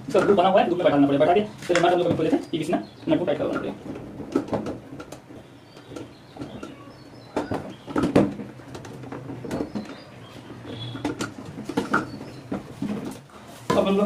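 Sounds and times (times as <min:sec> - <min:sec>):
hollow plastic knocks and rattles: 0:01.6 - 0:02.6, 0:03.2 - 0:14.0.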